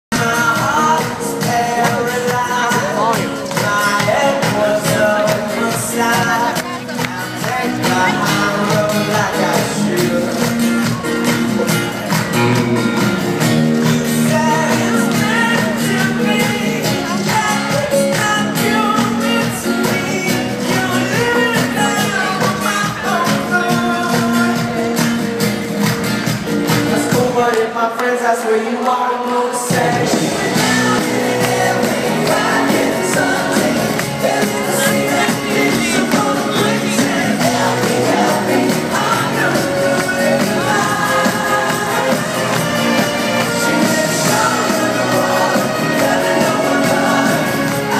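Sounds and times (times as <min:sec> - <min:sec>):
person singing: 0:00.1 - 0:25.4, 0:26.7 - 0:47.9
live band playing: 0:00.1 - 0:27.9, 0:29.5 - 0:47.9.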